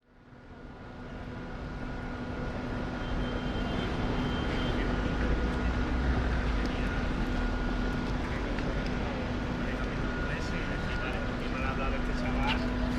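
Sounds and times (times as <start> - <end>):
constant hum: 0.0 - 12.9
low city rumble: 0.0 - 12.9.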